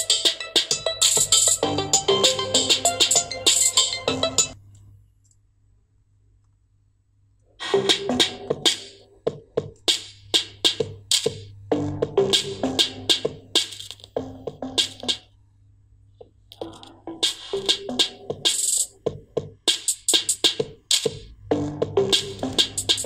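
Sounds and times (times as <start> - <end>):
electronic music with drum-machine beat: 0.0 - 4.6, 7.6 - 15.3, 16.2 - 23.0.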